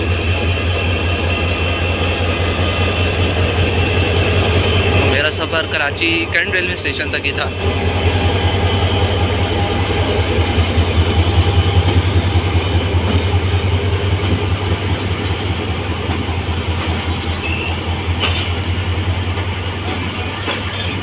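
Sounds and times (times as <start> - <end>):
thin high whine: 0.0 - 21.0
train diesel engine drone: 0.0 - 21.0.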